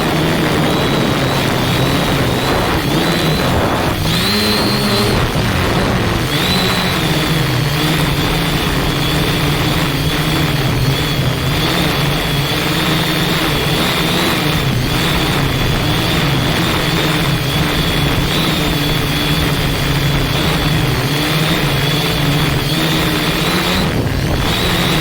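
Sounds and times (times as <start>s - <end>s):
drone propellers whining: 0.0s - 25.0s
heavy wind noise: 0.0s - 25.0s.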